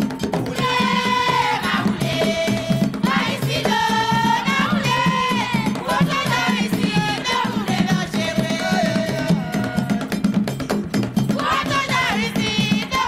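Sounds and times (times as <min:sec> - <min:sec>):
driving drum pattern: 0:00.0 - 0:13.0
rattle percussion: 0:00.0 - 0:13.0.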